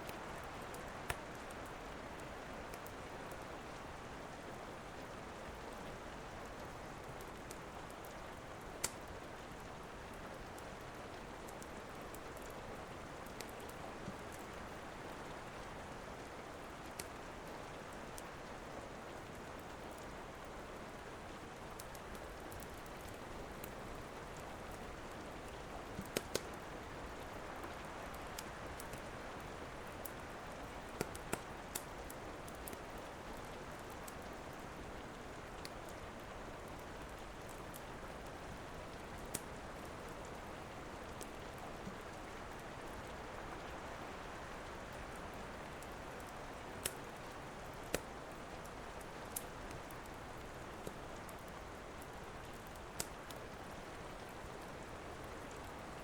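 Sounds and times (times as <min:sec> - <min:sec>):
wood fire crackling: 0:00.0 - 0:03.5, 0:05.4 - 0:18.5, 0:21.6 - 0:56.0
steady rain: 0:00.0 - 0:56.0.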